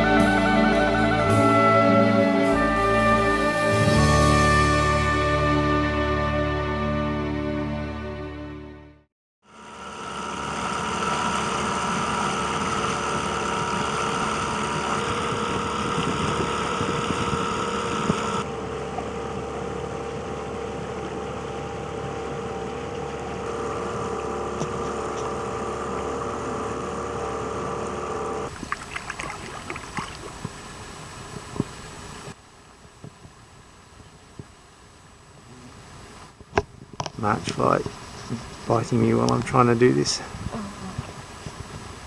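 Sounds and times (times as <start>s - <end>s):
outboard motor droning: 0.0s - 7.0s, 9.4s - 42.0s.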